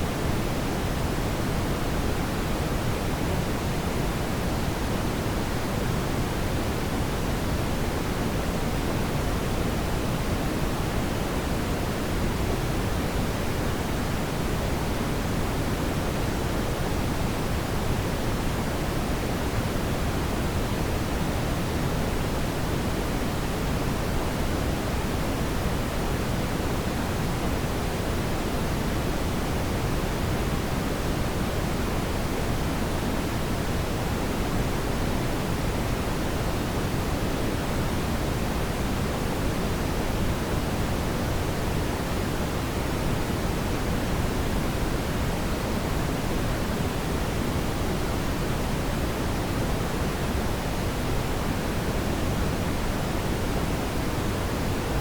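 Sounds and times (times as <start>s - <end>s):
brown noise hiss: 0.0s - 55.0s.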